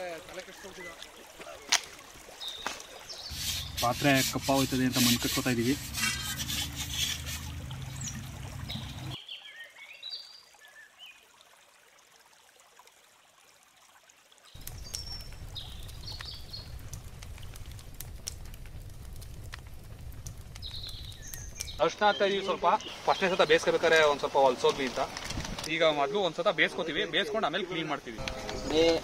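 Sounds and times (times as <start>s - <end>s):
small birds chirping: 0.2s - 11.2s, 14.5s - 29.0s.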